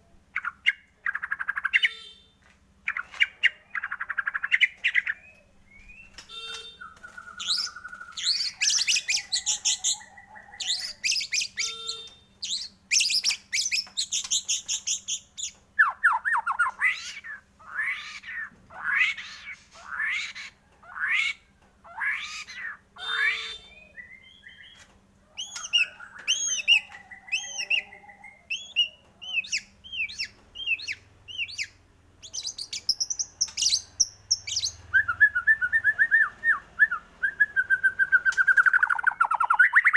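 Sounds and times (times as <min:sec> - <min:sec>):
songbird singing trills and whistles: 0:00.3 - 0:02.2, 0:02.9 - 0:21.4, 0:22.0 - 0:39.9.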